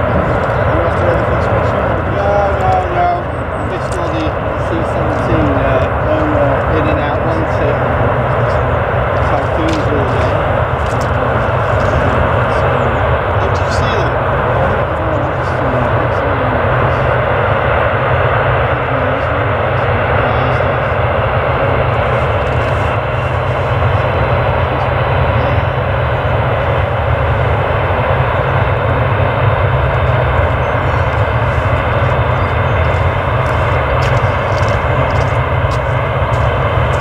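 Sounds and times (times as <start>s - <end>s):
jet airliner engines rushing: 0.0s - 37.0s.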